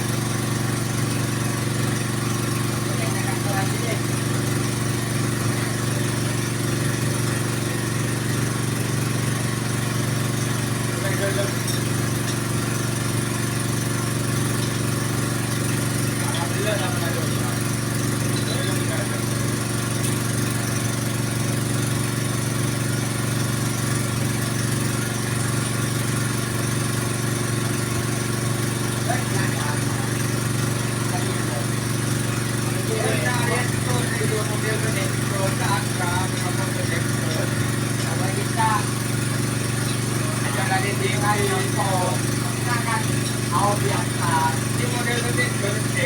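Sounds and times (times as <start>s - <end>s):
small engine running steadily: 0.0s - 46.0s.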